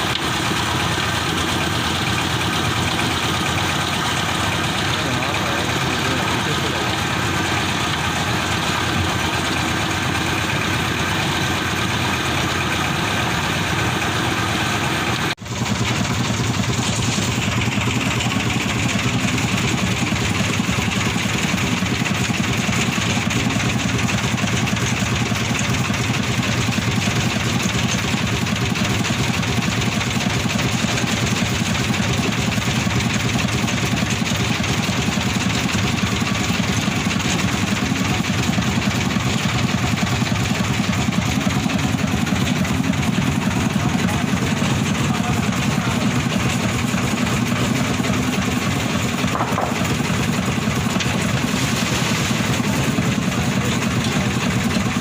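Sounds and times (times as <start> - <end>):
engine running with low pulsing: 0.0 - 55.0.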